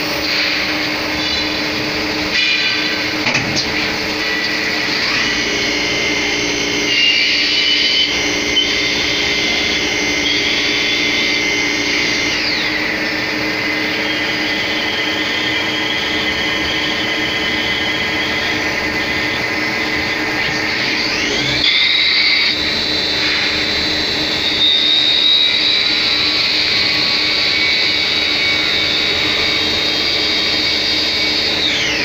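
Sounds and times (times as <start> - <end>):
lathe mechanical whine: 0.0 - 32.0.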